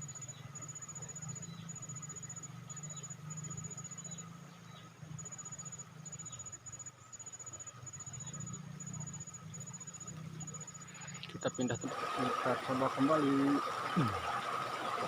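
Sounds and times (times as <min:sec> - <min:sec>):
insect chirping in trills: 0:00.0 - 0:15.0
low steady hum: 0:00.0 - 0:15.0.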